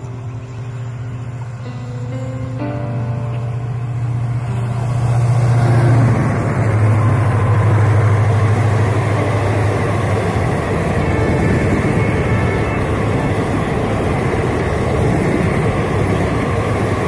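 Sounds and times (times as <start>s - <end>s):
coaches rushing on rails: 0.0s - 17.0s
locomotive engine hum: 0.0s - 17.0s.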